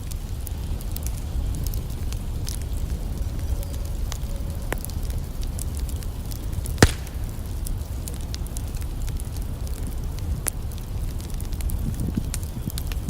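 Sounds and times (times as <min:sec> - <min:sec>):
campfire crackling: 0:00.0 - 0:13.0
fire popping: 0:00.0 - 0:13.0.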